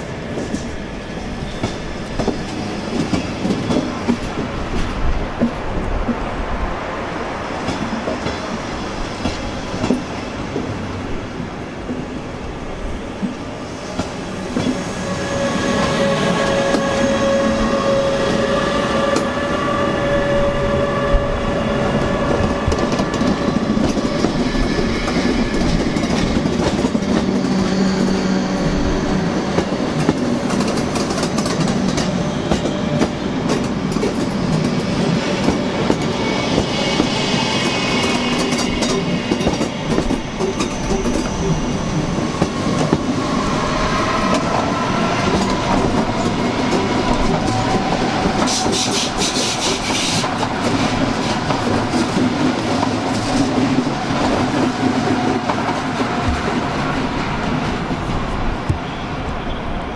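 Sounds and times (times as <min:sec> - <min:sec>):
train rolling rumble: 0:00.0 - 0:59.9.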